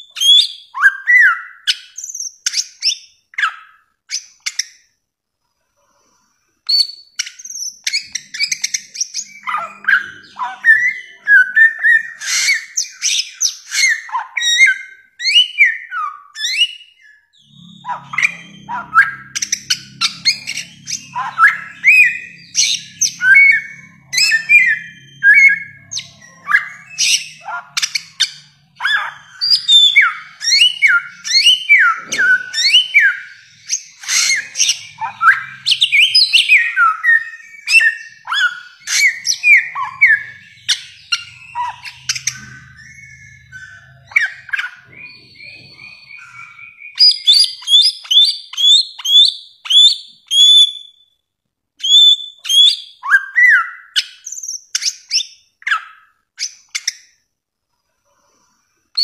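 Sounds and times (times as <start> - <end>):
bird singing rapid whistles: 6.7 - 51.1, 51.8 - 57.1.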